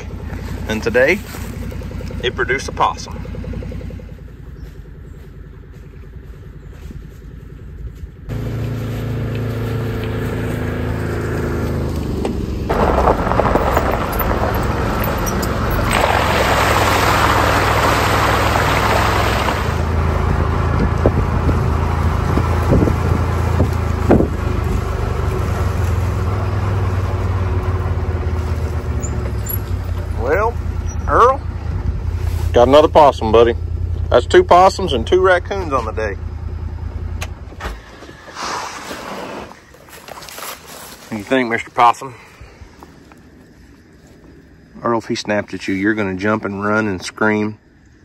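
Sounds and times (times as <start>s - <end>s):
vehicle engine humming: 0.0s - 48.0s.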